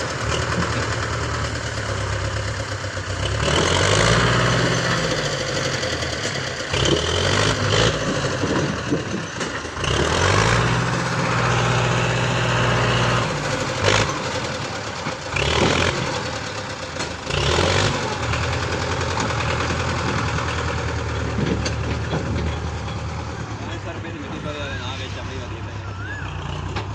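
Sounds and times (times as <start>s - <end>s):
rattling and clanking: 0.0s - 25.6s, 26.4s - 26.9s
tractor engine under load: 0.0s - 26.9s.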